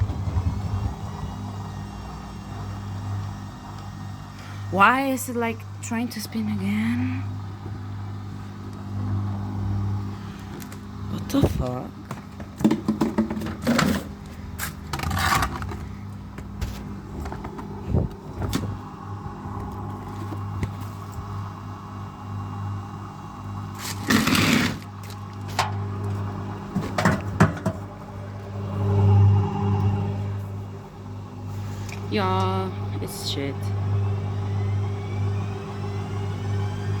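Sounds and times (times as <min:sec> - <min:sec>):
washing machine motor humming: 0:00.0 - 0:37.0.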